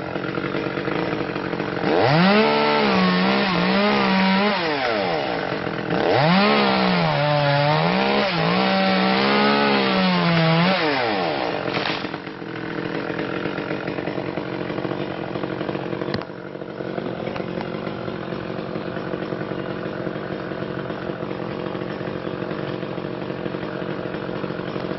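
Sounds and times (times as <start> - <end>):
chainsaw revving: 0.0 - 24.9.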